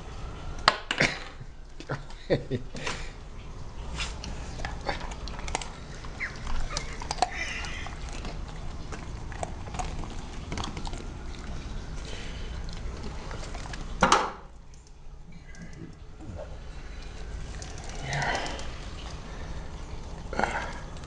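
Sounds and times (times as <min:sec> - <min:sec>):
dog chewing wetly: 0:03.4 - 0:21.0.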